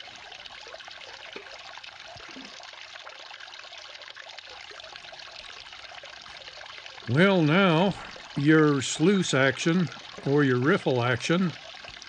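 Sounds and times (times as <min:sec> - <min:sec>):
water trickling through sluice: 0:00.0 - 0:12.0.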